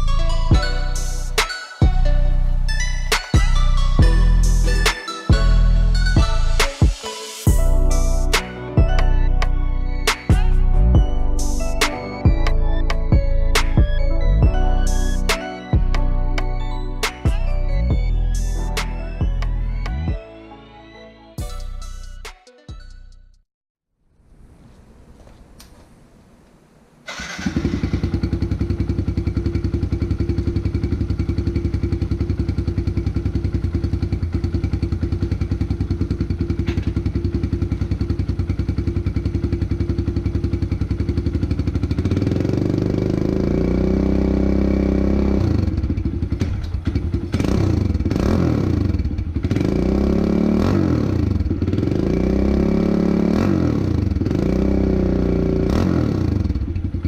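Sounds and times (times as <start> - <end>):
motorcycle engine idling and revving: 0.0 - 20.2, 27.1 - 57.0.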